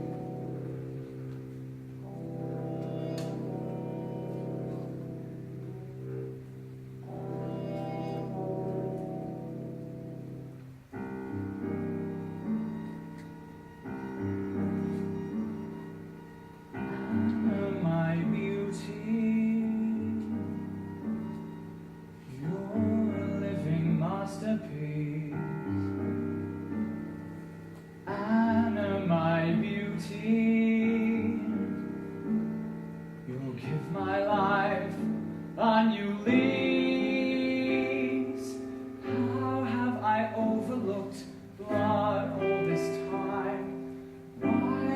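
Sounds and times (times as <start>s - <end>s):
piano-led musical theatre music: 0.0s - 44.9s.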